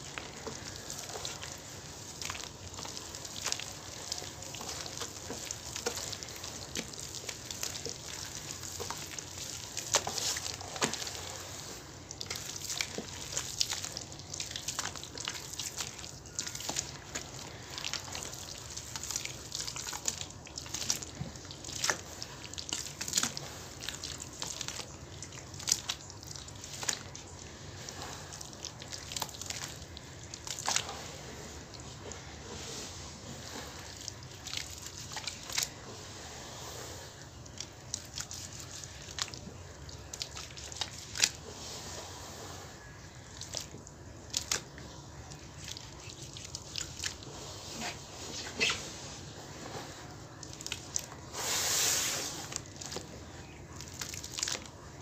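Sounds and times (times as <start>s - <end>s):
hands squelching wet paste: 0.0s - 55.0s
water splashes and drips: 0.0s - 55.0s.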